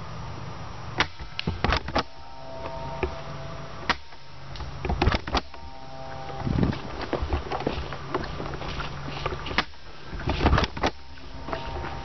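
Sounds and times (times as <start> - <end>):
steady low hum: 0.0 - 12.0
sharp clicks and knocks: 1.0 - 3.2, 3.8 - 5.7, 6.3 - 11.9.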